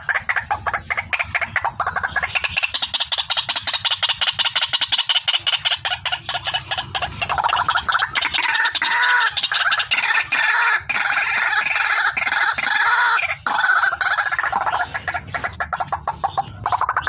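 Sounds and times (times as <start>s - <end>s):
waterhen calling harshly: 0.0s - 17.0s.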